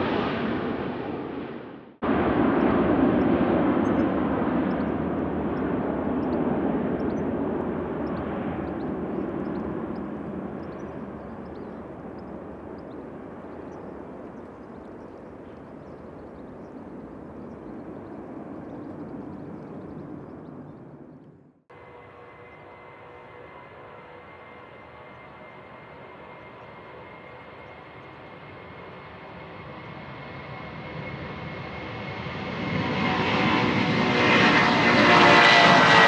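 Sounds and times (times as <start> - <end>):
jet airliner engine noise: 0.0 - 36.0.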